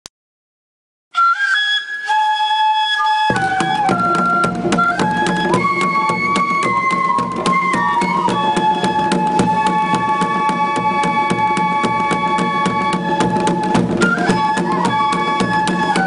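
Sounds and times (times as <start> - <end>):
side-blown flutes melody: 1.1 - 16.0.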